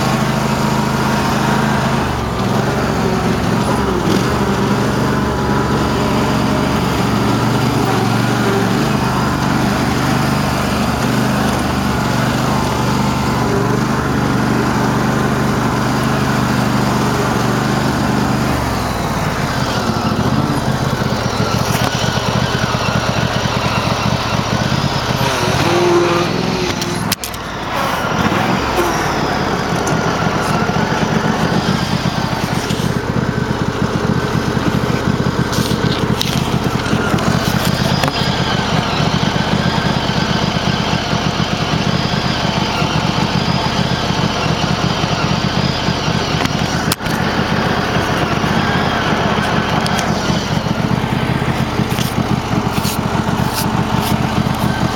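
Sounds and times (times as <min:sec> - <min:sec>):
garden tractor engine running hard: 0:00.0 - 0:54.9.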